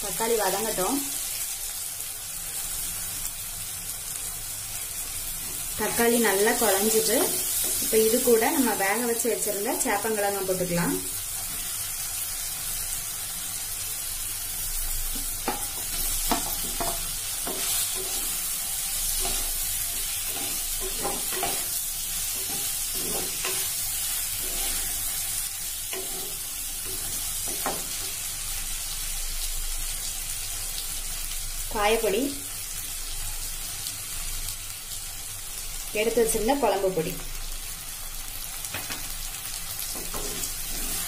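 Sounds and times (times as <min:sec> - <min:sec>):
food sizzling in oil: 0:00.0 - 0:41.0.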